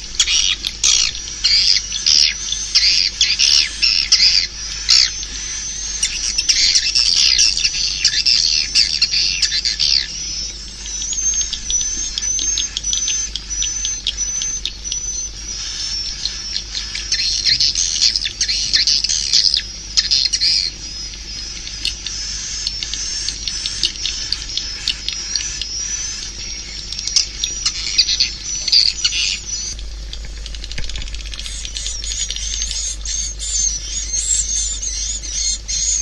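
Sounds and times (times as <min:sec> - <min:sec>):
swiftlets twittering and clicking: 0:00.0 - 0:36.0.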